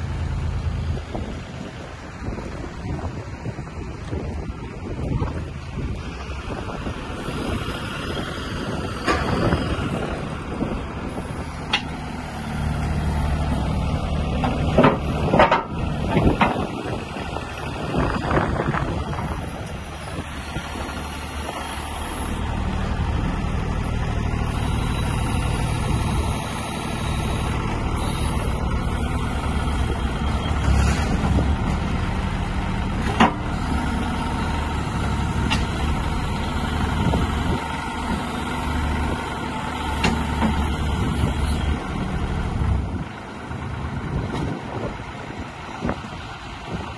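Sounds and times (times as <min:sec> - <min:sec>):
mini excavator engine running: 0:00.0 - 0:46.9.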